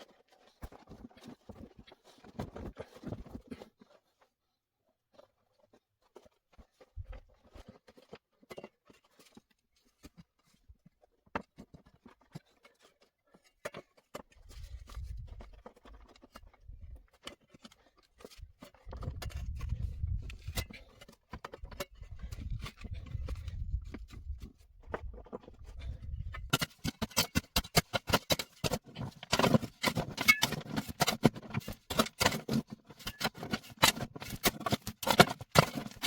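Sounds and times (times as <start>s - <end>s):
clicks and knocks of handling: 5.1s - 36.0s.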